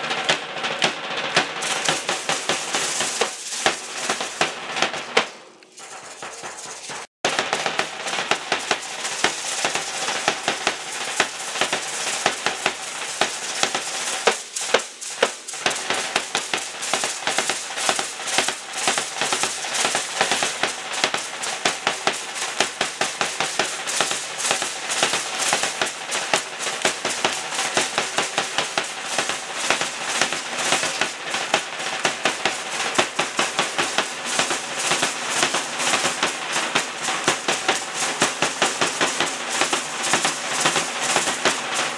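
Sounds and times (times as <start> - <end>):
drum beat: 0.0 - 41.9
rattles shaking: 0.0 - 41.9.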